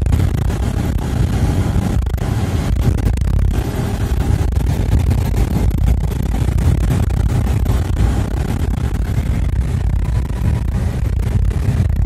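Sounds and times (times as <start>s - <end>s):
car road noise from inside: 0.0s - 12.0s.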